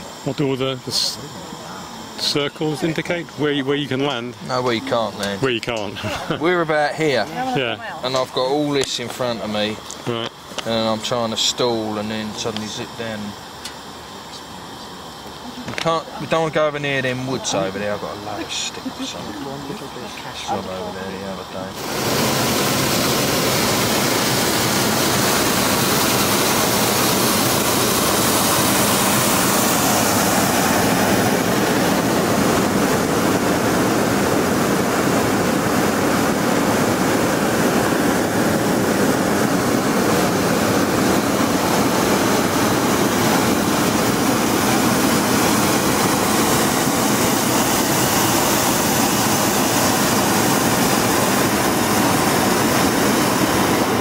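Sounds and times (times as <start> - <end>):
propane burner roaring: 0.0 - 54.0.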